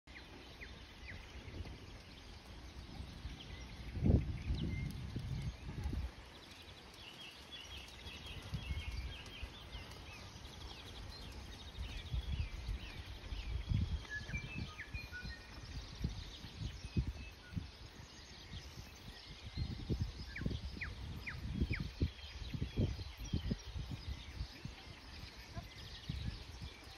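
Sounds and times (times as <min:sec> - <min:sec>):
birds singing: 0:00.1 - 0:26.9
hooves thudding on sand: 0:00.2 - 0:22.2.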